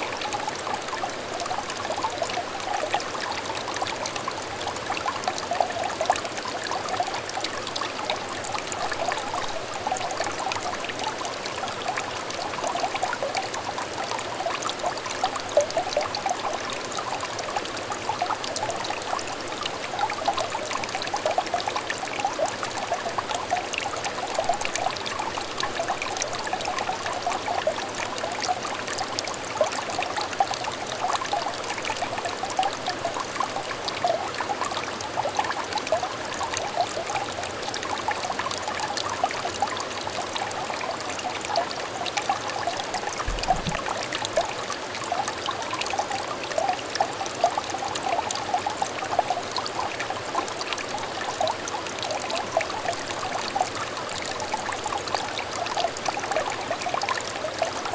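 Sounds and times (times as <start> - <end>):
stream trickling and babbling: 0.0 - 57.9.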